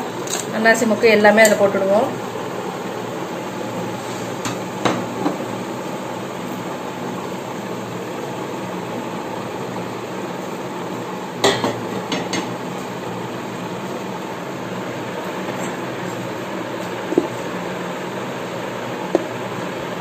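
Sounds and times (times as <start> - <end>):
spices sizzling in hot oil: 1.4 - 20.0.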